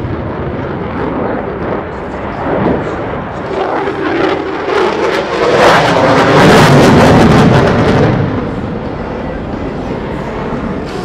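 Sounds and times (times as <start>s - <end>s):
jet afterburner roar with crackle: 0.0s - 11.0s.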